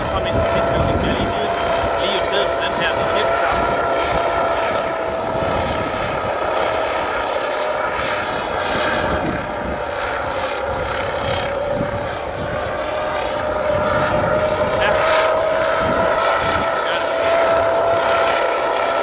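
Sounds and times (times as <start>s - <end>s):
drone propellers humming: 0.0s - 19.0s.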